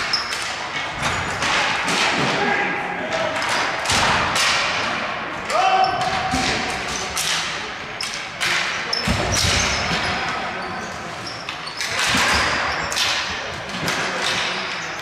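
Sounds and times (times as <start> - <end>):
hockey sticks clacking: 0.0 - 15.0.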